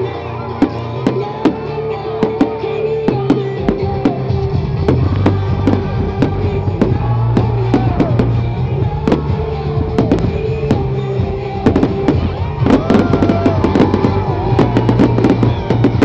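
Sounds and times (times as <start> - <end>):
music with steady bass line: 0.0 - 16.0
firework bangs and crackles: 0.5 - 16.0.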